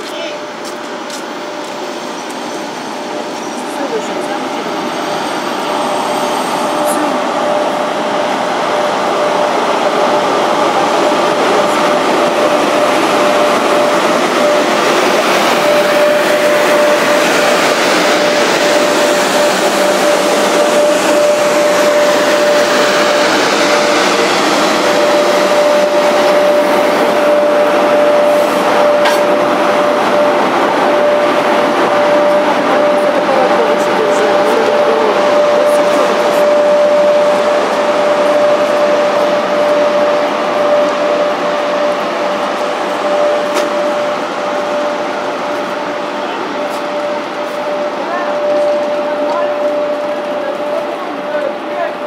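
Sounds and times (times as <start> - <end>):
high whine: 0.0 - 52.0
train wheels on rail: 0.0 - 52.0.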